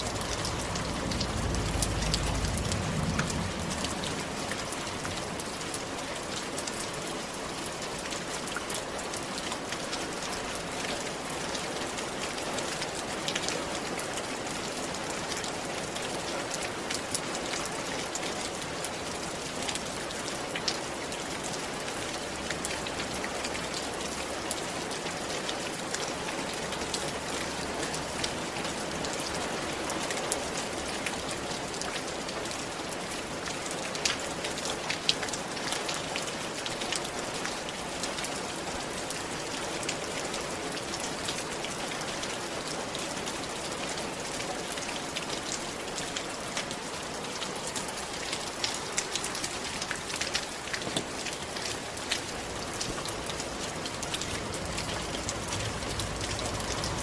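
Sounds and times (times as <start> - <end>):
rain falling on a roof: 0.0 - 57.0.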